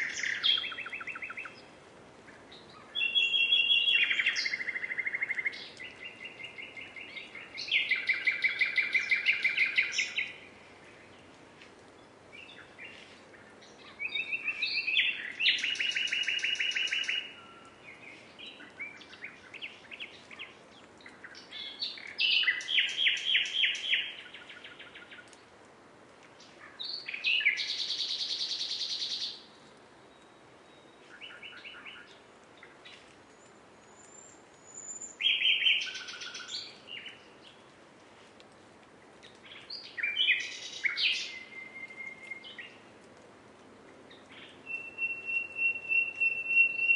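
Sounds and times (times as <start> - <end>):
nightingale singing: 0.0 - 1.7, 2.3 - 11.3, 12.0 - 25.4, 26.4 - 37.6, 39.2 - 42.8, 44.1 - 46.9.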